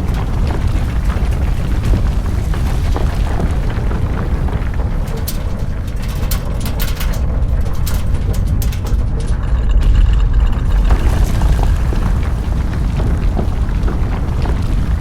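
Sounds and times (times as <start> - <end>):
deep earthquake rumble: 0.0 - 15.0.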